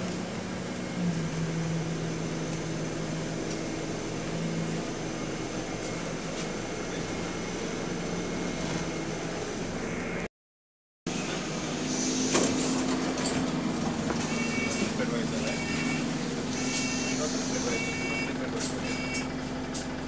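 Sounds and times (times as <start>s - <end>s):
bus engine hum: 0.0s - 10.3s, 11.1s - 20.0s.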